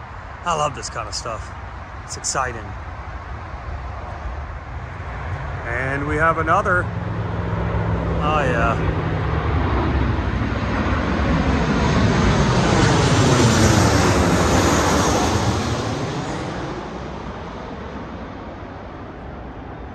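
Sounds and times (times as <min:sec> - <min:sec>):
airliner passing overhead: 0:00.0 - 0:19.9.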